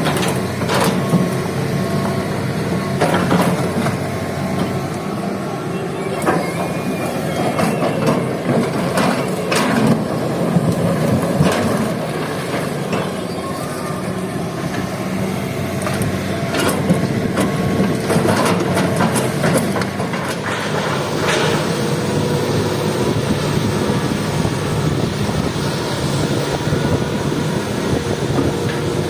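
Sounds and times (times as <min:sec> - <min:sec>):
excavator diesel engine under load: 0:00.0 - 0:29.0.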